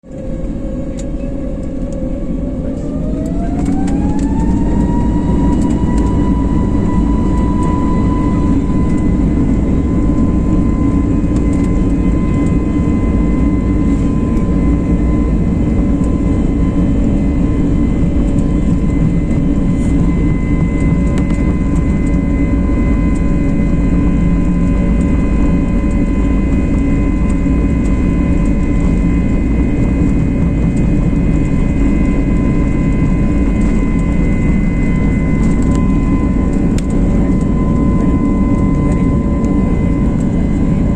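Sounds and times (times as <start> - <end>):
jet engine rumble: 0.0 - 40.9
jet engine whine: 0.0 - 40.9.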